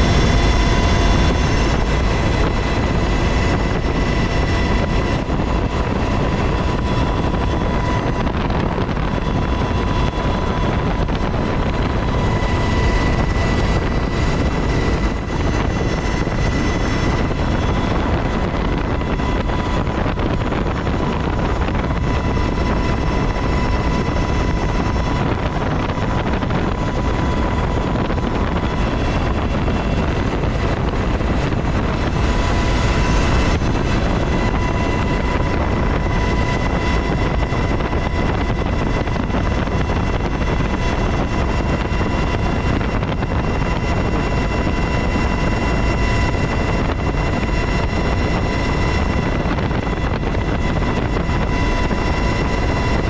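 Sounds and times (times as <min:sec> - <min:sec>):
helicopter rotor and engine din: 0:00.0 - 0:53.0
high whine: 0:00.0 - 0:53.0.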